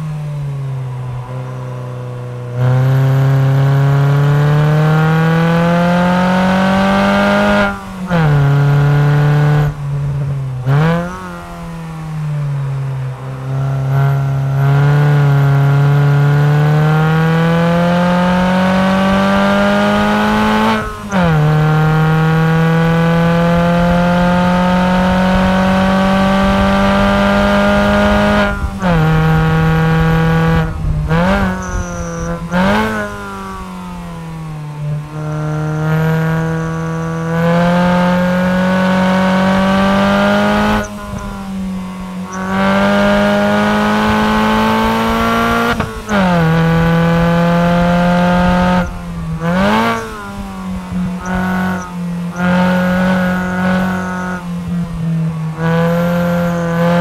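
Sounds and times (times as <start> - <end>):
car exhaust revving: 0.0 - 57.0.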